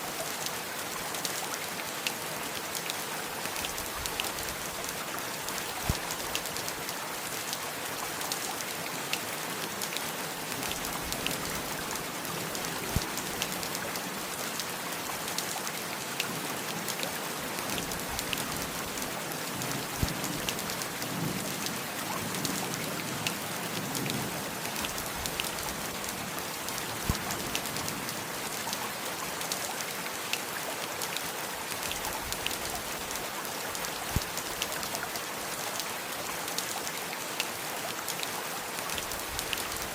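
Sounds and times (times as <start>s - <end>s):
heavy rain: 0.0s - 39.9s
raindrops ticking close by: 0.1s - 39.9s.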